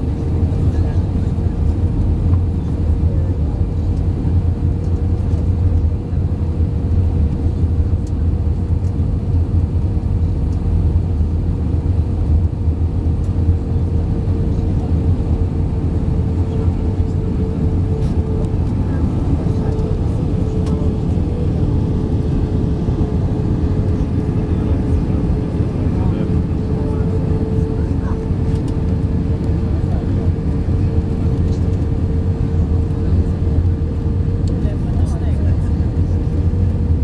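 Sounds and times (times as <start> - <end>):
aircraft cabin engine rumble: 0.0 - 37.0.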